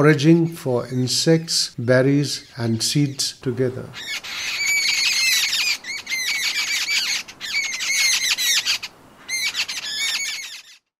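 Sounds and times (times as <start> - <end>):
birds chattering squeakily: 1.9 - 11.0.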